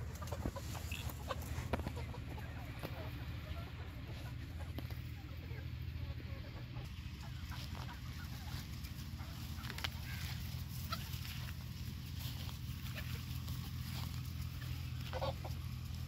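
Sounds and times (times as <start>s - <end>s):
chickens clucking: 0.0s - 16.0s
steady low hum: 0.0s - 16.0s.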